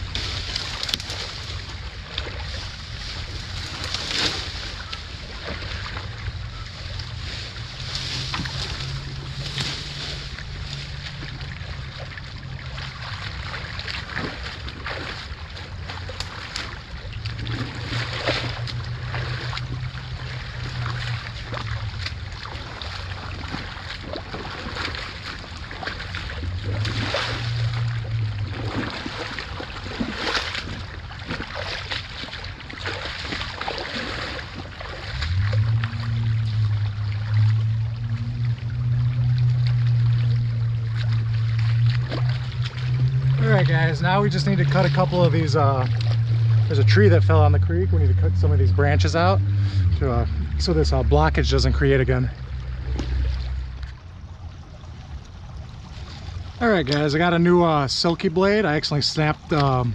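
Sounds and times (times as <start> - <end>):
boots wading through water: 0.0 - 59.9.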